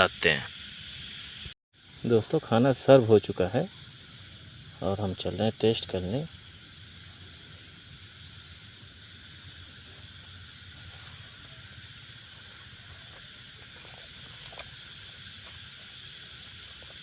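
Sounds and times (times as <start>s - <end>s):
steady high insect shrill: 0.0s - 16.9s
crickets chirping: 0.0s - 17.0s.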